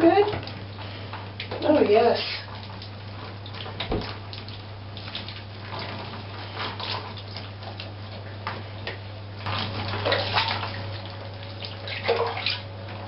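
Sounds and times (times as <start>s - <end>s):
water splashing in a bathtub: 0.0s - 13.0s.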